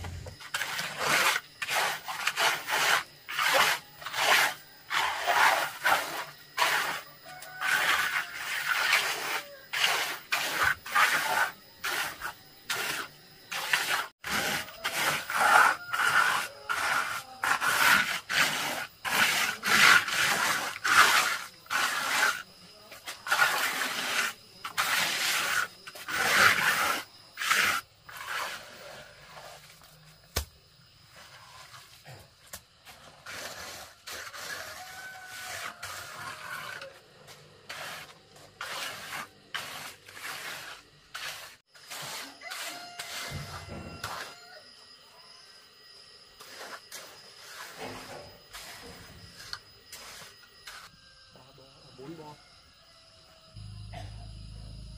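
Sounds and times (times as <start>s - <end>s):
hand tool scraping gritty surface: 0.0s - 44.6s, 46.4s - 51.0s.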